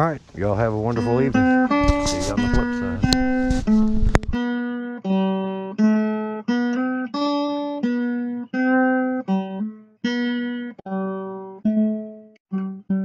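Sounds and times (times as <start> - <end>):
plucked acoustic guitar notes: 0.0 - 13.0.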